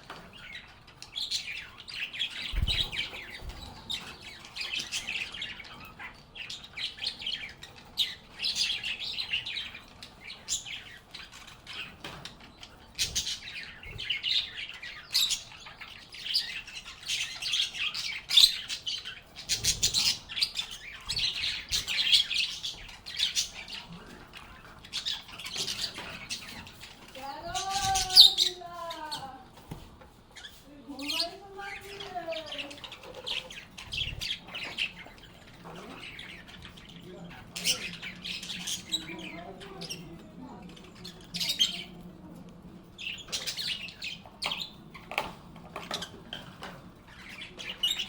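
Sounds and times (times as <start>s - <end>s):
lovebirds chattering: 0.0s - 48.0s.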